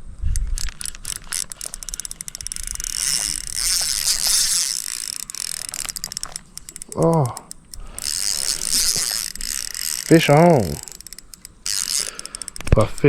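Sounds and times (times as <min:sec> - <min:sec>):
fishing reel gears clicking: 0:00.3 - 0:13.0.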